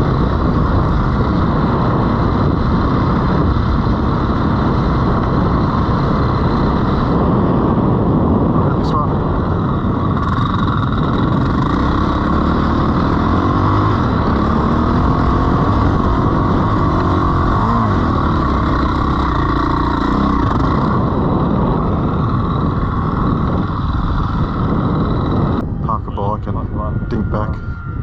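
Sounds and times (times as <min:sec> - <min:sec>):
dirt bike engine revving: 0:00.0 - 0:25.6.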